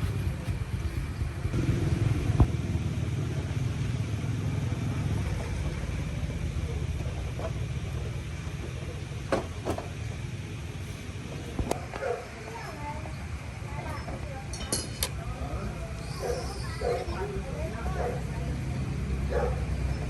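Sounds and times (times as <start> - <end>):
engine running with pulsing rumble: 0.0 - 20.0.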